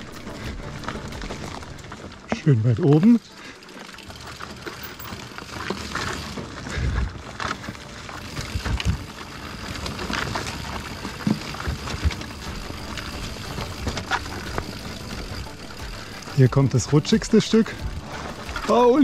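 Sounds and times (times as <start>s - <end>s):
bike knocking and rattling: 0.0s - 19.0s
bike tyres rolling over soil: 0.0s - 19.0s.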